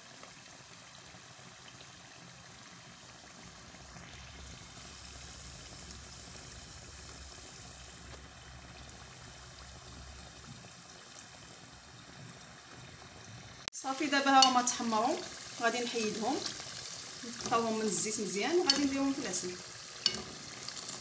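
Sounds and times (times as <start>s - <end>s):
food deep-frying in bubbling oil: 0.0s - 21.0s.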